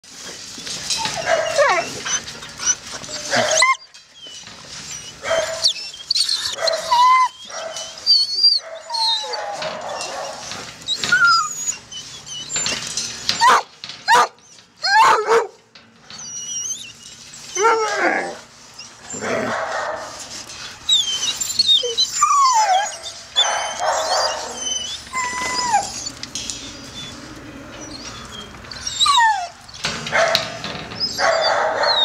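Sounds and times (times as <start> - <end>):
hounds whining and yelping: 0.6 - 32.0.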